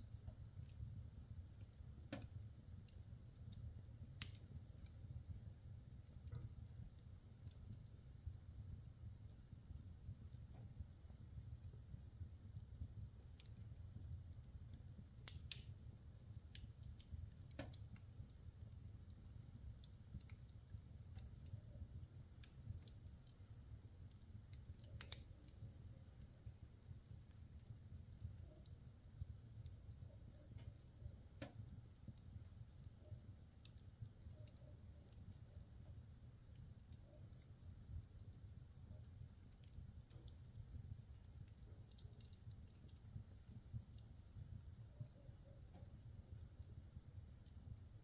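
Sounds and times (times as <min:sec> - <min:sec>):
logs crackling in fireplace: 0:00.0 - 0:48.0.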